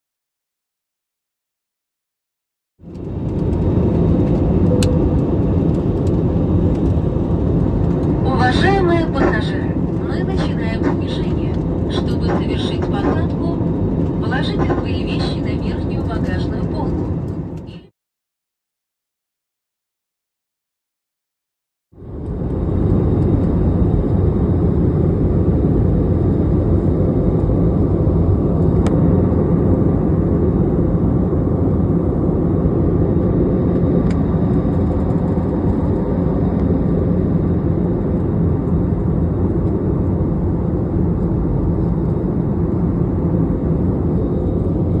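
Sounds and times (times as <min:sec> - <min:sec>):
airliner cabin engine noise: 0:02.8 - 0:17.9, 0:22.0 - 0:45.0.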